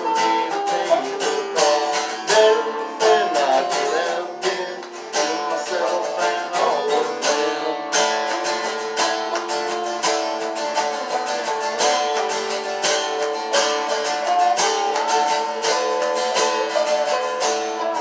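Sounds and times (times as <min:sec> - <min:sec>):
acoustic string band playing: 0:00.0 - 0:18.0.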